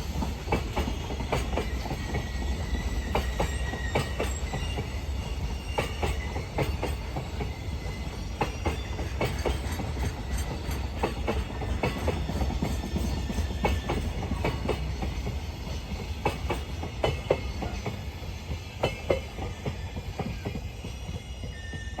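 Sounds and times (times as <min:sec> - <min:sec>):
wheels clacking over rail joints: 0:00.1 - 0:18.0.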